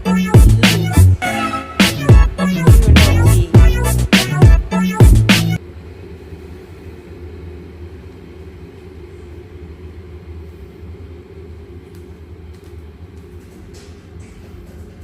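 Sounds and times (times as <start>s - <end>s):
low machine hum: 1.9s - 15.0s.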